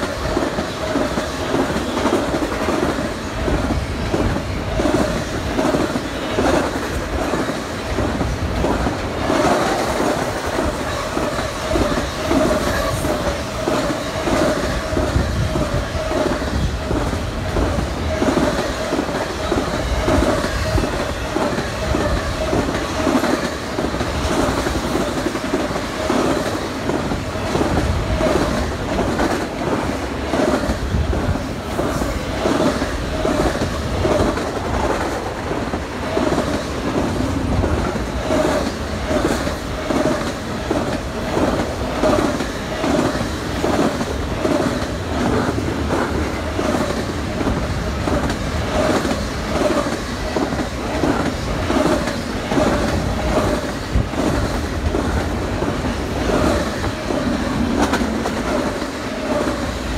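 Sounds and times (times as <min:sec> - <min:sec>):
train rumble: 0:00.0 - 0:59.9
train wheels clicking over rail joints: 0:00.0 - 0:59.9.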